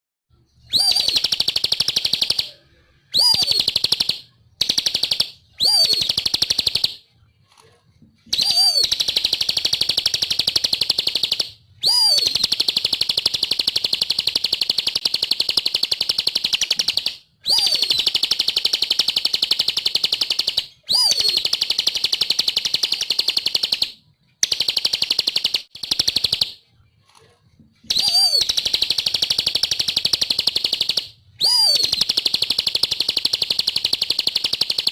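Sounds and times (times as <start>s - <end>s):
bird singing fast high trill: 0.7s - 7.0s, 8.3s - 23.9s, 27.9s - 34.8s.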